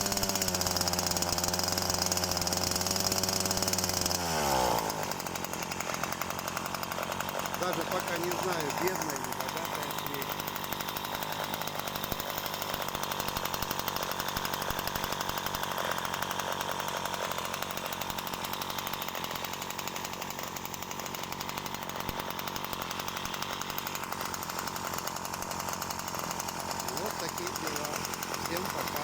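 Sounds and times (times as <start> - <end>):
two-stroke moped engine running: 0.0 - 29.0.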